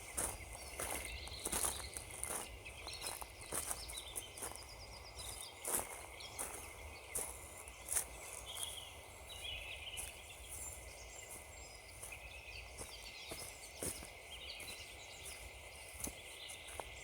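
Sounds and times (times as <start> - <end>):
footsteps crunching on frozen ground: 0.0 - 17.0
small birds chirping: 0.0 - 17.0.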